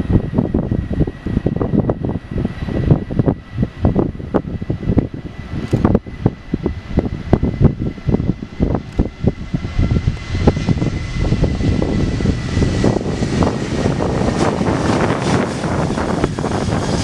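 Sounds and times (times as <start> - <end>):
jet engines roaring: 0.0 - 17.0
wind buffeting on microphone: 0.0 - 17.0.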